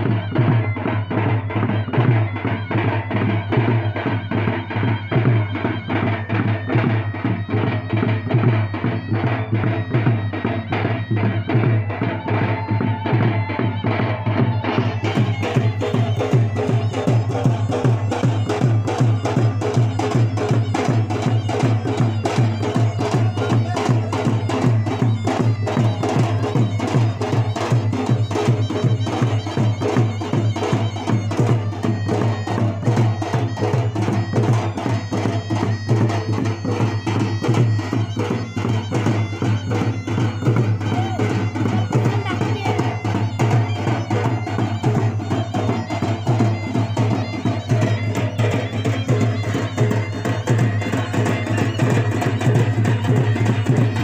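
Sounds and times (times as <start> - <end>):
folk music: 0.0 - 54.0.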